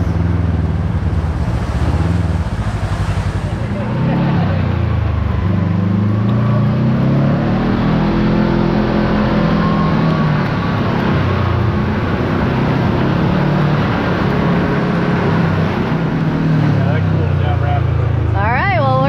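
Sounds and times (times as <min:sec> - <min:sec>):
utility vehicle engine running: 0:00.0 - 0:19.0.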